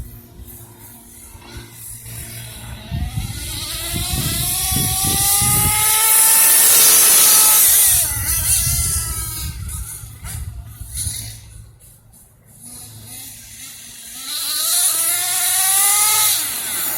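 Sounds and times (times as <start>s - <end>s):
two-stroke engine revving: 0.0s - 11.5s, 12.6s - 16.9s.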